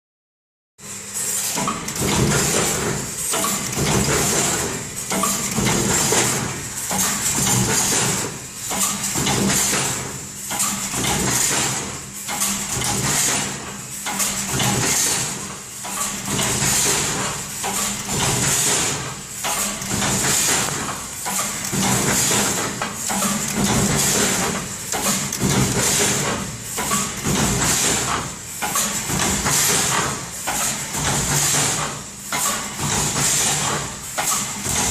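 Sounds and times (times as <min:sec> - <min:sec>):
welding machine clatter and hum: 0:00.8 - 0:34.9.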